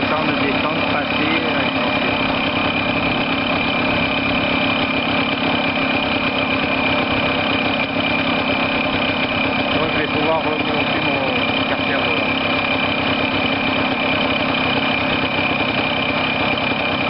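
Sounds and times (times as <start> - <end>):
two-stroke engine idling: 0.0 - 17.0.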